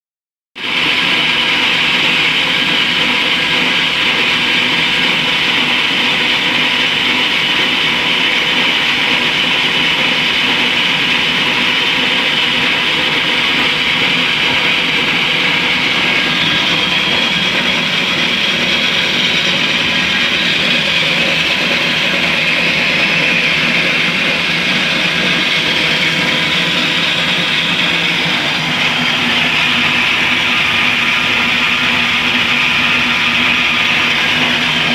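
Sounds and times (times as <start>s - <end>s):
band saw whirring drone: 0.6s - 34.9s.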